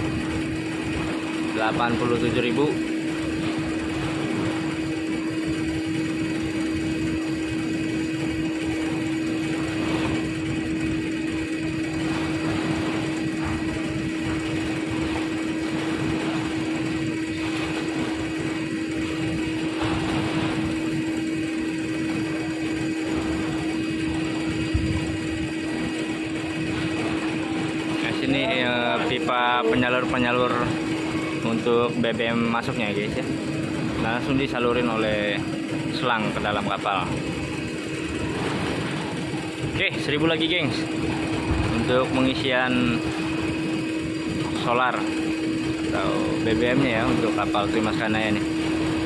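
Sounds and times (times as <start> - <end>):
fuel pump droning hum: 0.0 - 49.0.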